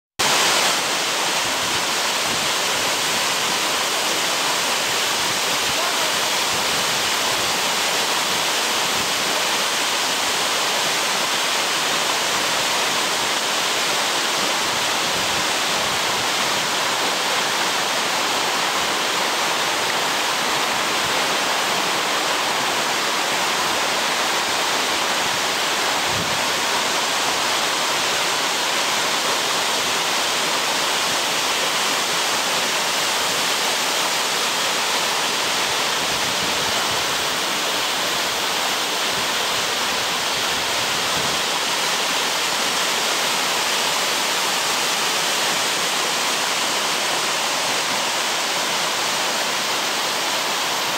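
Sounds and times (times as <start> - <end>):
waterfall rushing: 0.2 - 50.9.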